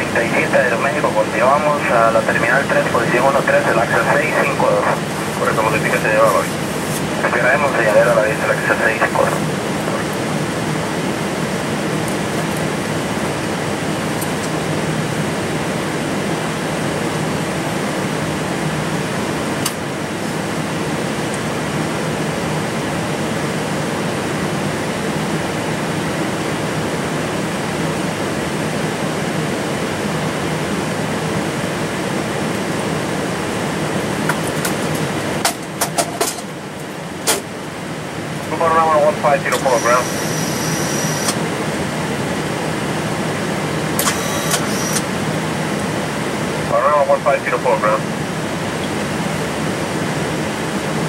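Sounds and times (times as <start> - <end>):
air-conditioning rush: 0.0 - 51.0
jet engines idling: 0.0 - 51.0.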